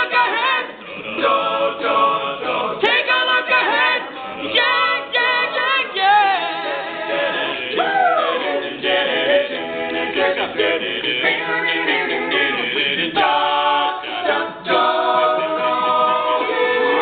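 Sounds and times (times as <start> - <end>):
male group singing in harmony: 0.0 - 17.0.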